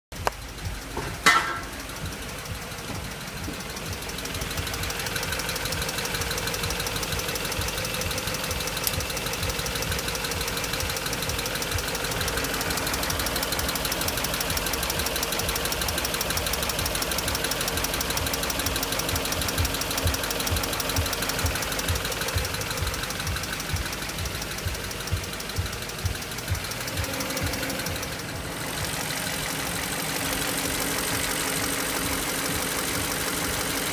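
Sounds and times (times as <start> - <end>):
car engine running: 0.1 - 33.9
fast even engine ticking: 0.1 - 33.9.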